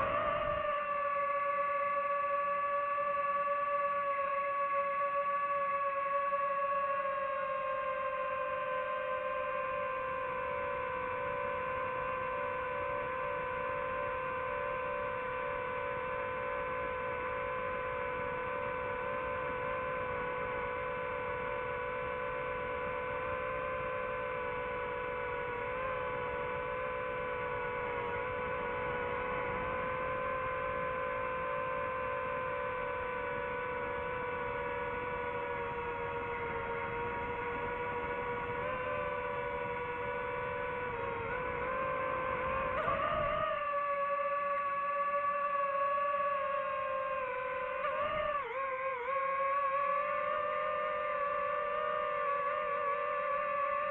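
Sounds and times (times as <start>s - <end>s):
drone propellers humming whine: 0.0s - 53.9s.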